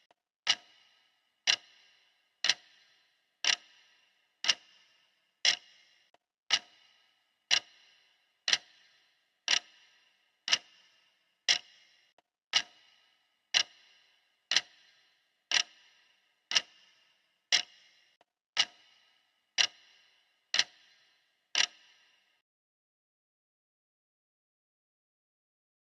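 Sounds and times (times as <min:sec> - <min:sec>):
clock ticking: 0:00.0 - 0:22.4.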